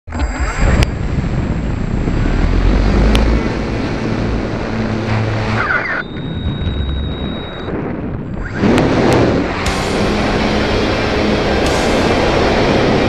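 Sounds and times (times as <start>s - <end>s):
model airplane rushing hum: 0.1s - 13.0s
high steady whine: 0.2s - 13.0s.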